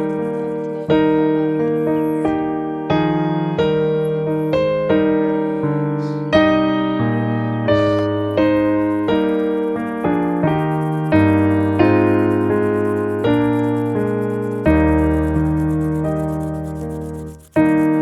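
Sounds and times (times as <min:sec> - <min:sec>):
soft piano playing: 0:00.0 - 0:18.0.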